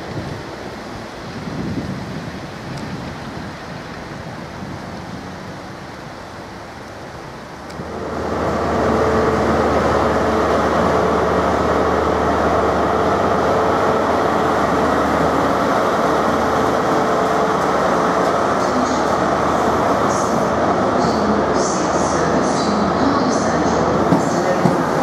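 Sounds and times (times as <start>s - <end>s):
diesel train engine hum: 0.0s - 25.0s
wheels rumbling on rail: 0.0s - 25.0s.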